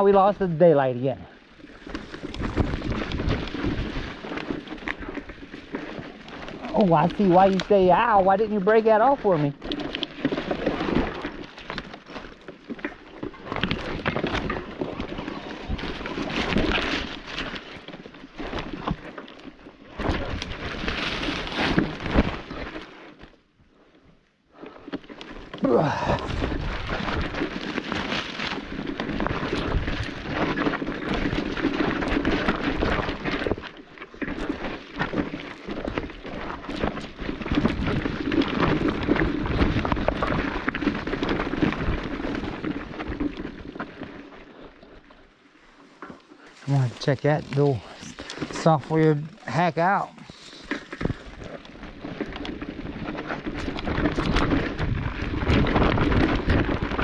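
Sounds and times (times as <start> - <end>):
branches rustling and scraping: 0.0 - 24.0, 24.6 - 57.0.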